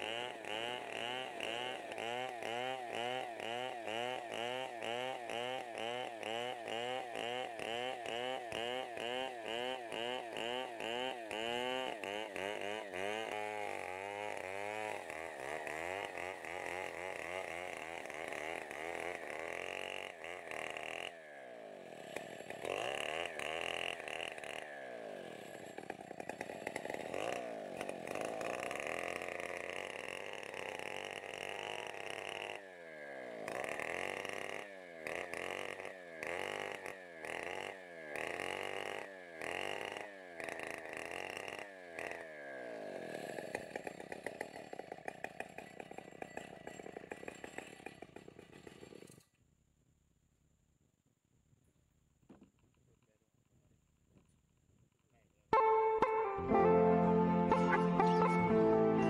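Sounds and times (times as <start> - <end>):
chainsaw cutting a log: 0.0 - 49.4.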